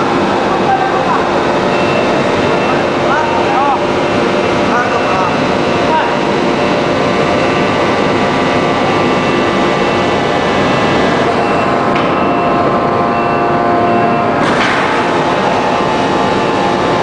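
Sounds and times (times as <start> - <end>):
loud machinery drone: 0.0 - 17.0
machine whining tones: 0.0 - 17.0.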